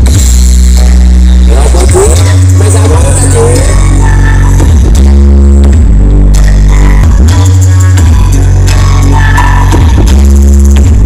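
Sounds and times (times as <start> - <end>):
loud music with deep bass: 0.0 - 11.0.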